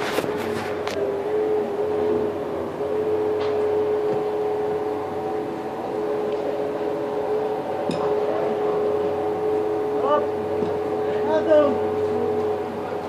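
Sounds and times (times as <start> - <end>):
crane engine hum with whine: 0.0 - 13.0.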